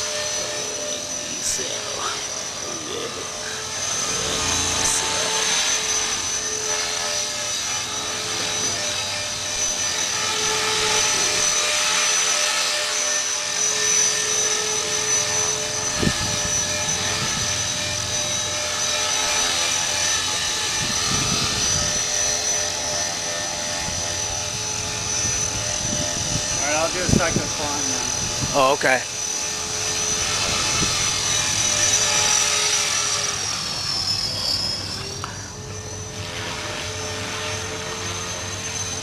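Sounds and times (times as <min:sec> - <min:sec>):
helicopter rotor noise: 0:00.0 - 0:39.0
rc helicopter motor whine: 0:00.0 - 0:39.0.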